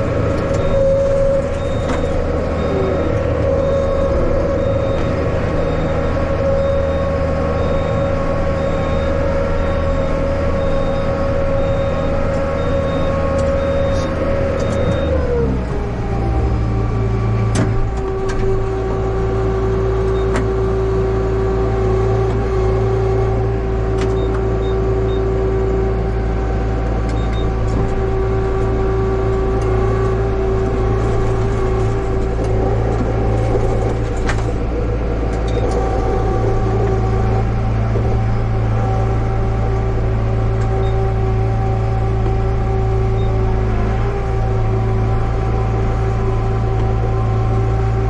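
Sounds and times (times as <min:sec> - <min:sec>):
diesel tractor engine running: 0:00.0 - 0:48.0
steady whine: 0:00.0 - 0:48.0.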